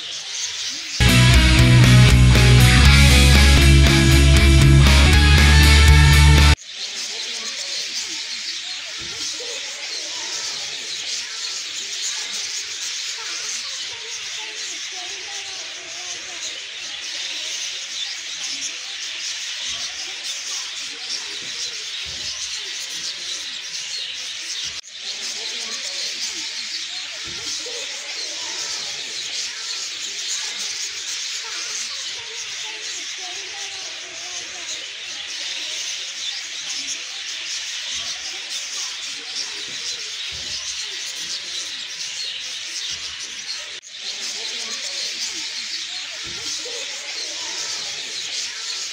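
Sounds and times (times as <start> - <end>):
birds chirping chorus: 0.0 - 48.9
faint human voices: 5.1 - 48.9.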